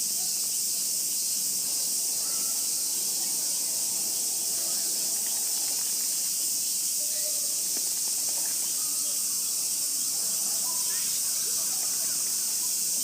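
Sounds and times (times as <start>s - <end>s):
cicada chorus drone: 0.0s - 13.0s.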